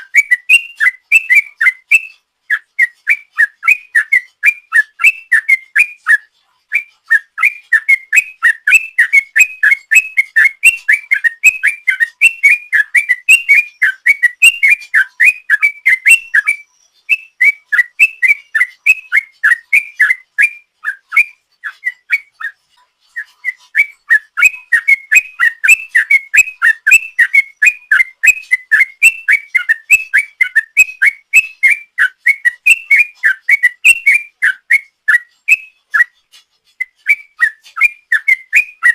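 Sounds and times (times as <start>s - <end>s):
bird singing bubbling whistles: 0.0s - 22.6s, 23.2s - 36.2s, 36.8s - 38.9s.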